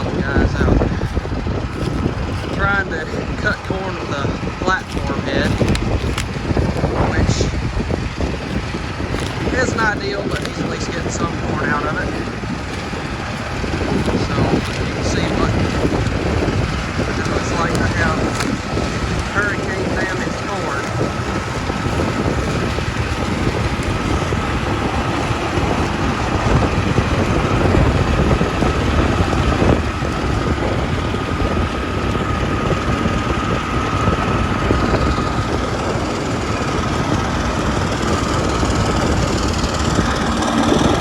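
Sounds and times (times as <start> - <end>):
combine harvester running: 0.0 - 41.0
faint steady whine: 0.0 - 41.0.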